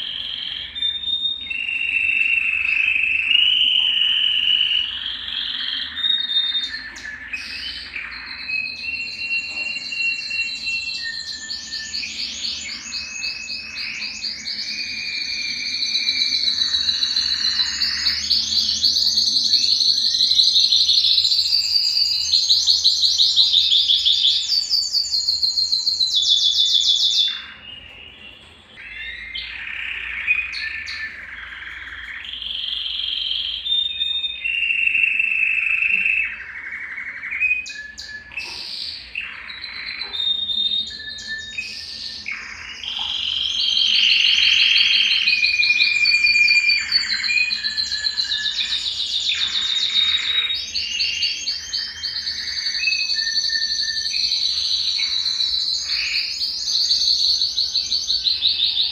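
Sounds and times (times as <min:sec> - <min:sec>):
canary singing with trills: 0:00.0 - 0:58.9.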